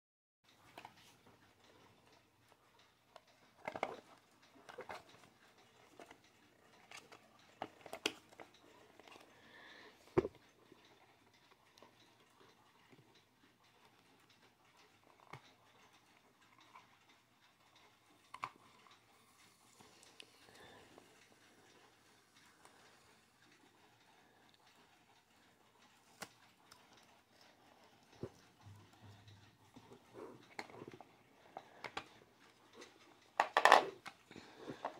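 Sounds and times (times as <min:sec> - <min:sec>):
clicks and taps on plastic clock: 0:00.5 - 0:19.1, 0:23.5 - 0:34.9.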